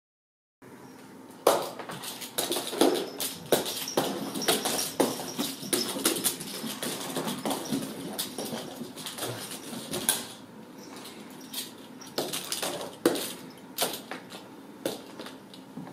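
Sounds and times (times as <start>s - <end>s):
kittens' paws on wooden stairs: 1.5s - 15.9s.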